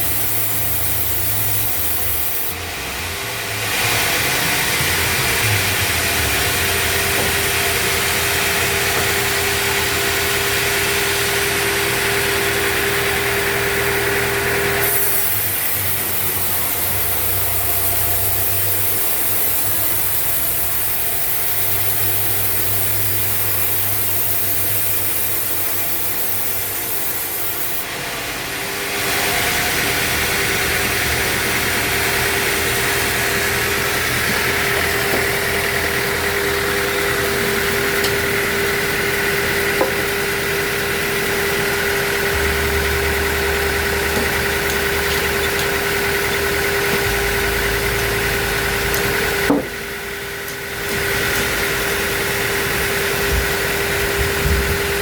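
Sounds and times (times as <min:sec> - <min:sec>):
band sawmill sawing wood: 0:00.0 - 0:55.0
steady machine hum: 0:00.0 - 0:55.0.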